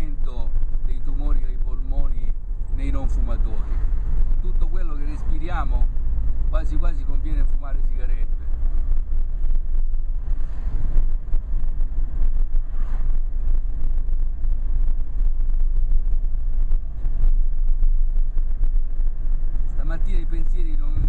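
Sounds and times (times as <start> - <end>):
engine and road rumble: 0.0 - 21.0.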